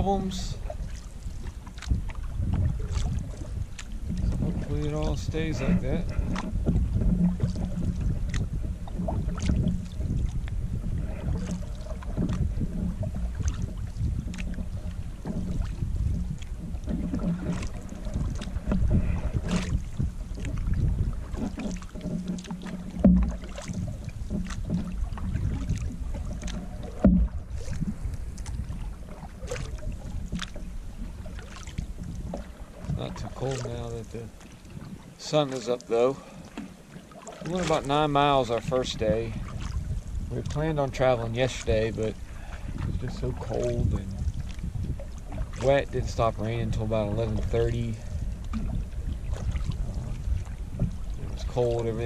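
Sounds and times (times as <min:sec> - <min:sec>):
wind rumble on microphone: 0:00.0 - 0:35.4, 0:37.4 - 0:52.0
paddle strokes in water: 0:00.0 - 0:52.0
water washing along hull: 0:00.0 - 0:52.0.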